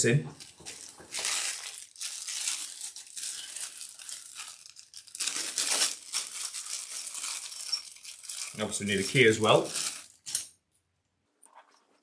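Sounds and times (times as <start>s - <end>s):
plastic bag crinkling: 0.3s - 10.4s.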